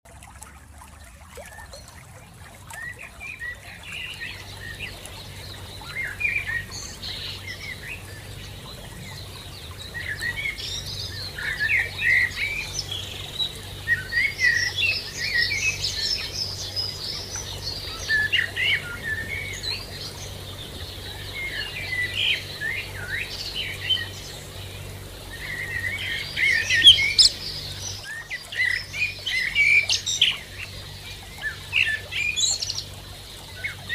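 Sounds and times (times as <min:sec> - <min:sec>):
songbirds chirping: 0:00.4 - 0:33.9.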